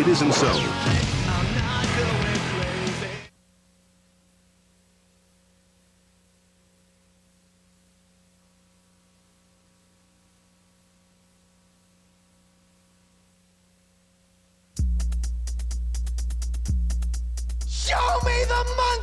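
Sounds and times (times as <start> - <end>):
tape hiss: 0.0 - 19.0
faint hum: 2.6 - 19.0.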